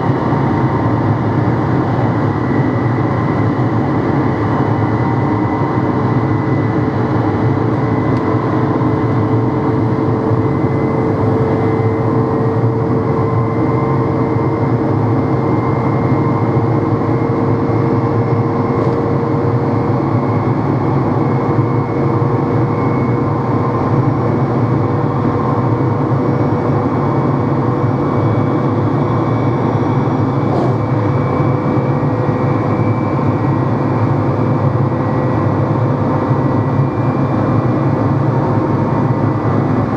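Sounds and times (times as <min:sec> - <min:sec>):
train motor drone and whine: 0:00.0 - 0:39.9.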